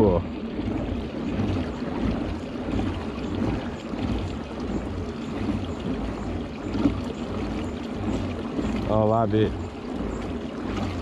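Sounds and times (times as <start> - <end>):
water splashing around a kayak: 0.0 - 11.0.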